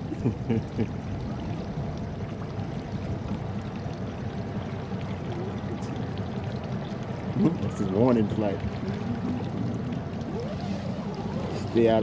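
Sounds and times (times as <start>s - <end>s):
low even rumble: 0.0s - 12.0s
water rushing around boat: 0.0s - 12.0s.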